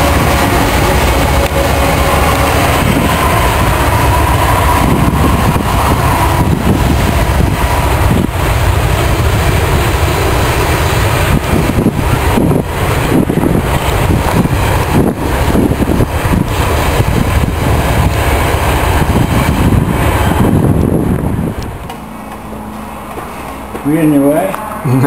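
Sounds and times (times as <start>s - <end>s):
wind buffeting microphone: 0.0s - 23.8s
freight train rumbling past: 0.0s - 25.0s.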